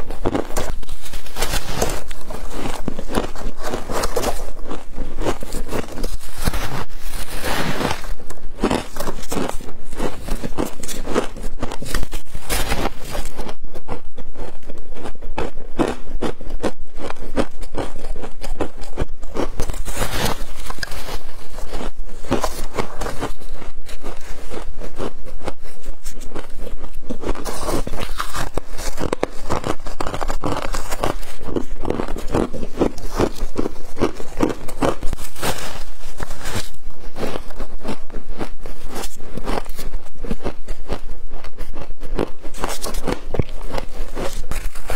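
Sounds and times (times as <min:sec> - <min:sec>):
hand scraping frost: 0:00.0 - 0:14.6, 0:18.4 - 0:44.9
chewing crunchy frost: 0:00.0 - 0:44.9.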